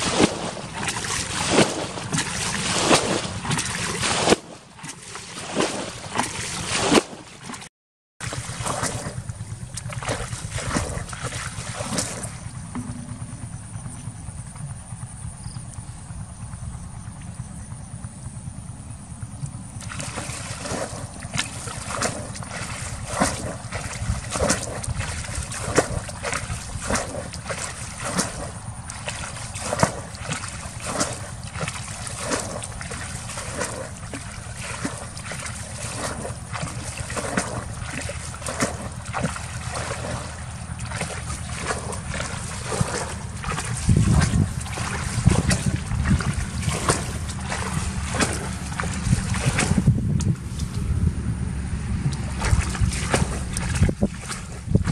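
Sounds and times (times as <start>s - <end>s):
bucket scooping and splashing water: 0.0s - 13.0s, 19.8s - 50.0s, 52.1s - 54.9s
wind rumble on microphone: 8.2s - 54.9s.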